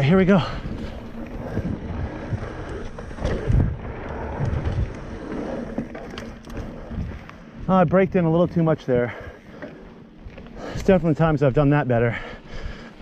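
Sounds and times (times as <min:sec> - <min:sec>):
mountain bike rumble and rattle: 0:00.0 - 0:13.0
wind buffeting microphone: 0:00.0 - 0:13.0.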